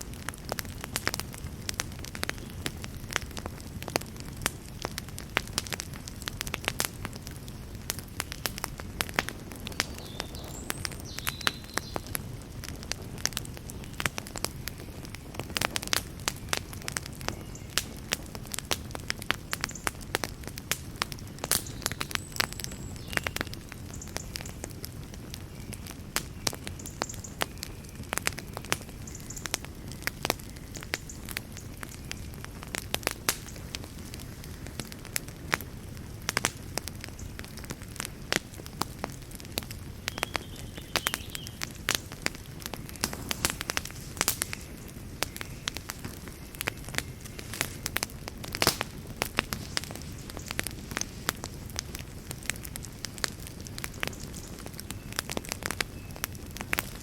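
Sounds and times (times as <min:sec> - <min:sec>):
burning wood crackling and popping: 0:00.0 - 0:57.0
fire rumbling: 0:00.0 - 0:57.0.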